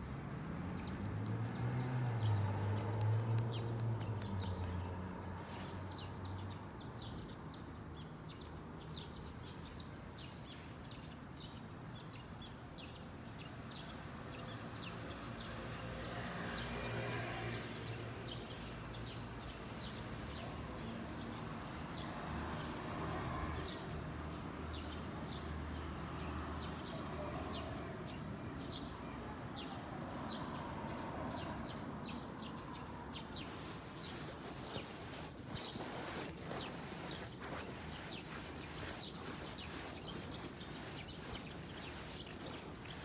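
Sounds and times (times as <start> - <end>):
small birds chirping: 0.7 - 16.7, 17.5 - 22.8, 24.6 - 43.0.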